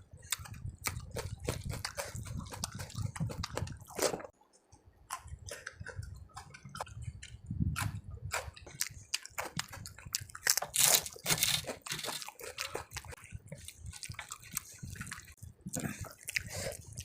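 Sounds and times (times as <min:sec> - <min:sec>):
crunchy food chewing: 0:00.2 - 0:04.4, 0:05.1 - 0:17.0.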